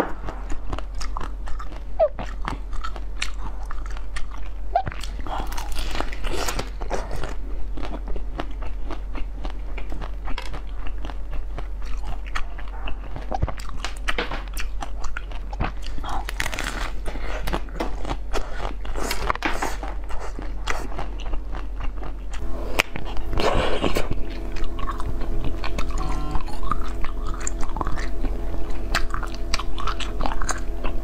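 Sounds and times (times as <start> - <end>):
crunchy chewing of frozen treat: 0.0 - 31.0.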